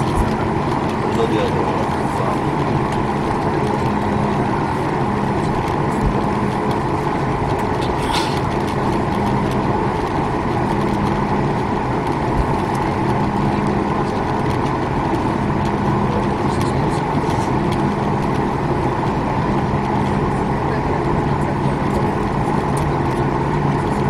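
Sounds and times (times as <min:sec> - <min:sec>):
aircraft cabin rumble and hum: 0:00.0 - 0:24.0.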